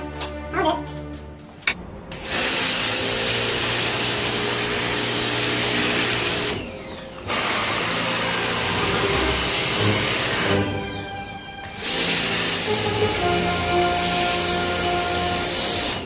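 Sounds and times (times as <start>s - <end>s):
pressure washer spraying water: 2.1s - 16.0s.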